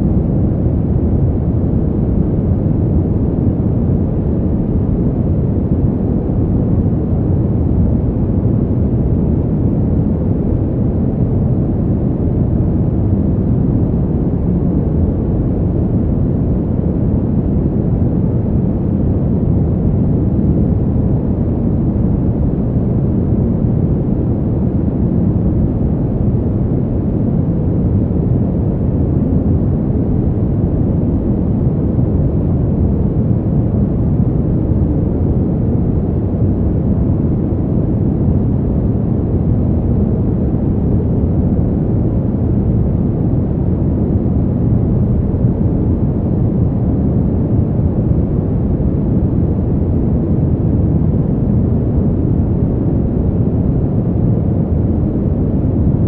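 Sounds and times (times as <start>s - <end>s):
deep rumbling wind: 0.0s - 56.0s.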